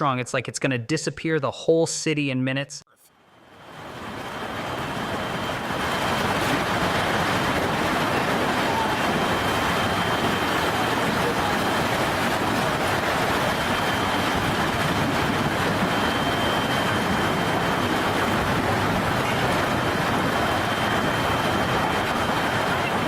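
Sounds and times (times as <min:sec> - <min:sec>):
rain: 0:03.3 - 0:23.0
storm wind: 0:03.5 - 0:23.0.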